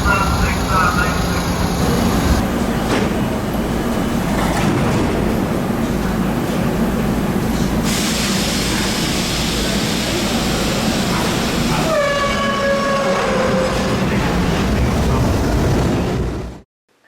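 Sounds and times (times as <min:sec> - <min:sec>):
subway train rumbling: 0:00.0 - 0:16.7.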